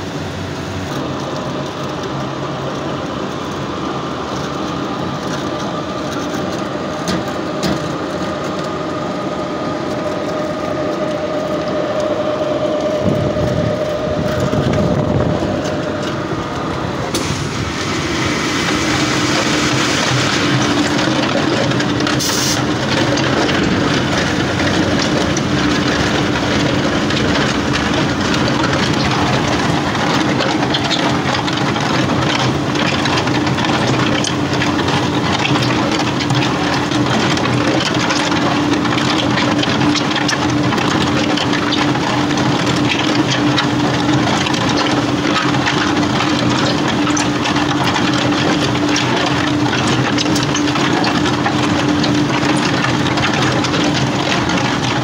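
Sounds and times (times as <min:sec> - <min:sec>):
concrete plant machinery humming: 0:00.0 - 0:55.0.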